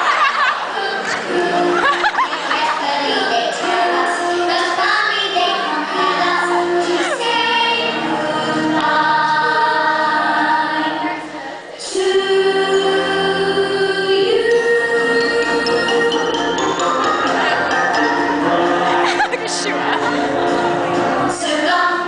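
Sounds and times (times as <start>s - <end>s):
voices singing in harmony: 0.0s - 22.0s.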